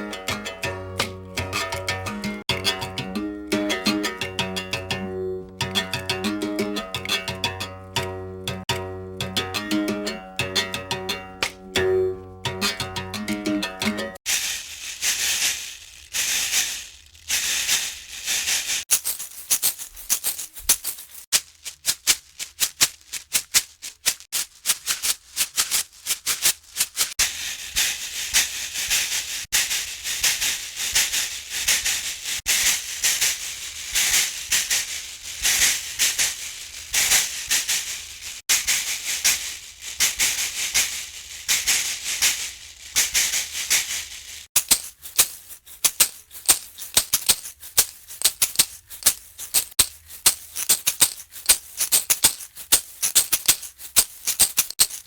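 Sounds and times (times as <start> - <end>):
basket rattle shaken rhythmically: 0.0 - 55.0.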